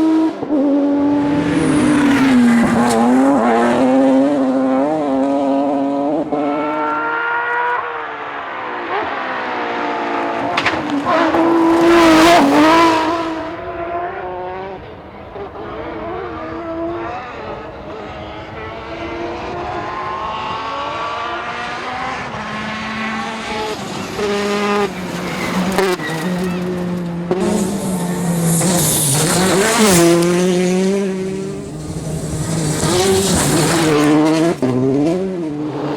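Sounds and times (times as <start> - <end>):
rally car engine at full throttle: 0.0 - 35.9.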